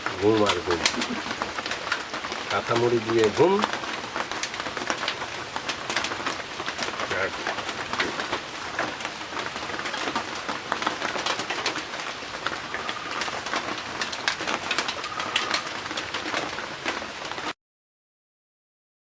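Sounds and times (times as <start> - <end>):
heavy rain pattering: 0.0 - 17.6.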